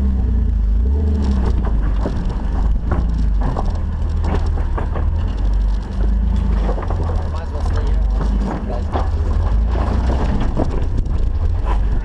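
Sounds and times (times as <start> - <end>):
engine running at low revs: 0.0 - 12.0
knocks and rattles: 1.1 - 12.0.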